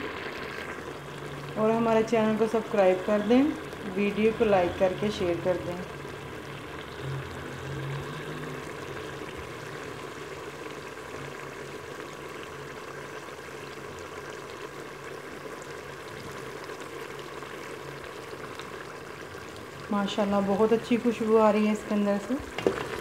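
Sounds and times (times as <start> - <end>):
curry boiling and sizzling: 0.0 - 23.0.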